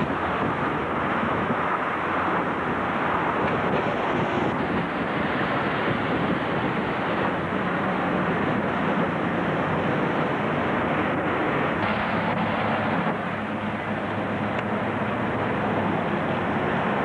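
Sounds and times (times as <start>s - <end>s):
engine drone: 0.0s - 17.0s
rushing wind-like noise: 0.0s - 17.0s.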